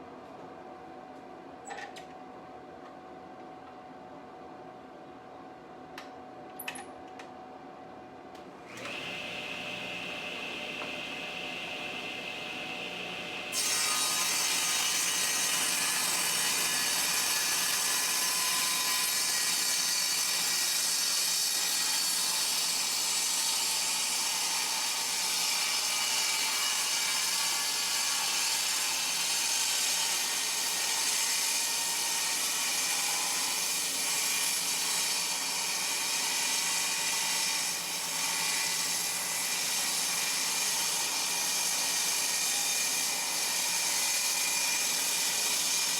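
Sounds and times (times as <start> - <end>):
table saw cutting wood: 8.7 - 45.9.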